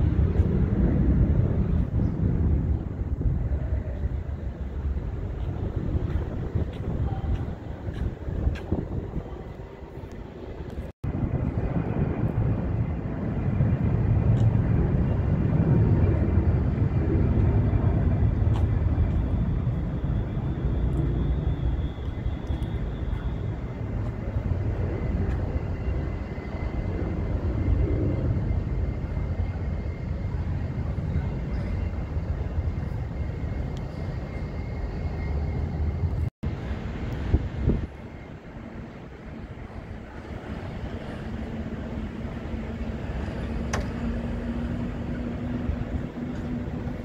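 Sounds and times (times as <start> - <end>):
jet engine rumble with high whine: 0.0 - 47.0.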